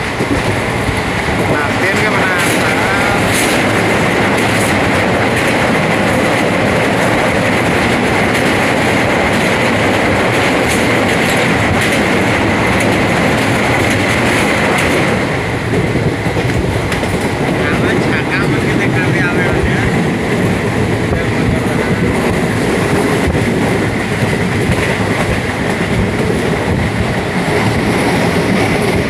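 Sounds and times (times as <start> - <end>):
train rumbling on rails: 0.0 - 29.0.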